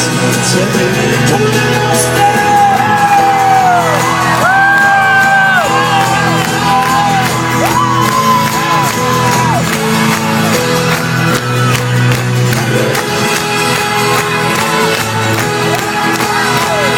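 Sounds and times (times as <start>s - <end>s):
rock band playing live: 0.0s - 16.9s
marching band playing: 1.6s - 16.9s
audience shouting and whooping: 1.9s - 12.5s, 13.4s - 16.9s.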